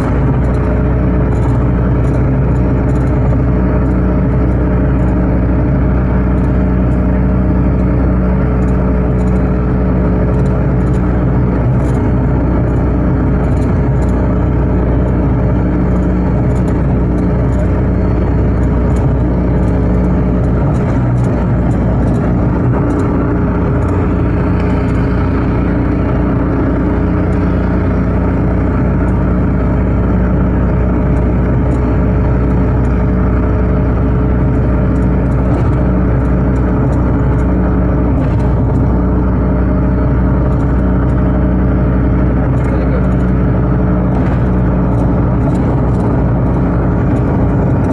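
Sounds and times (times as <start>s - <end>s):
car engine hum: 0.0s - 47.9s
tyre and road noise: 0.0s - 47.9s.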